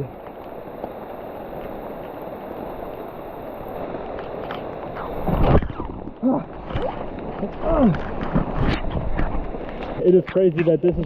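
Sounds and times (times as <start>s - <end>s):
low rush of wind: 0.0s - 11.0s
rain falling: 0.0s - 11.0s.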